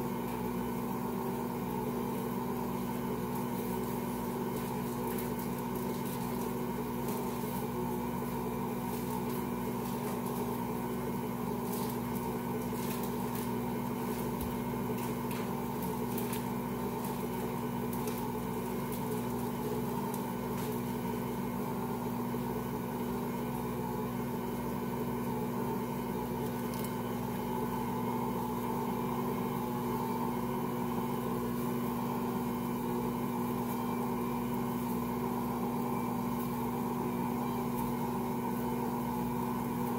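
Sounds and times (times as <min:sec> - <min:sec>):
kitchen mixer humming: 0:00.0 - 0:39.9.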